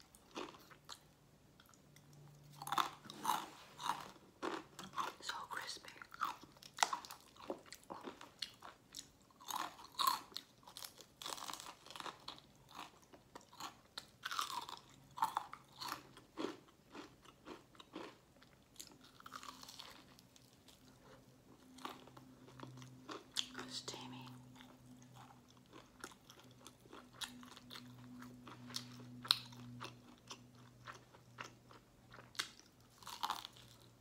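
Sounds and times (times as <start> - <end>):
chewing crispy fried chicken: 0.0 - 34.0.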